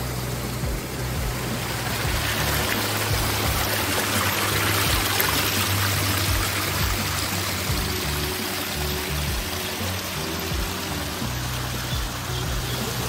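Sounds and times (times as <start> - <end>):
low background music: 0.0 - 13.0
water splashing over rocks: 0.0 - 13.0.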